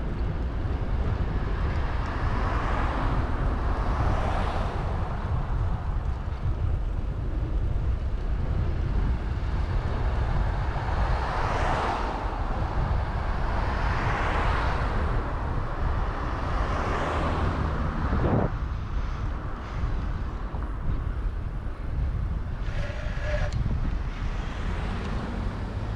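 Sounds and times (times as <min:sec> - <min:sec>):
traffic passing: 0:00.0 - 0:25.9
wind rumbling on microphone: 0:00.0 - 0:25.9.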